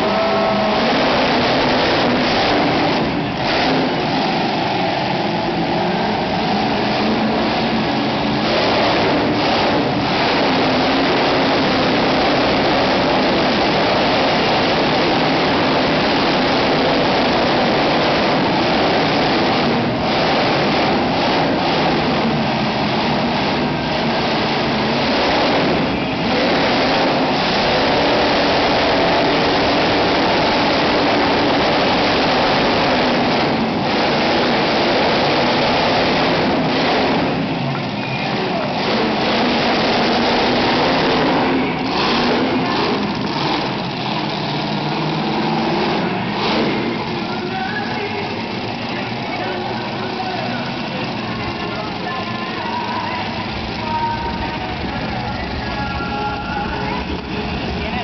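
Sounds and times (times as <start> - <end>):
monster truck engine revving: 0.0 - 58.0.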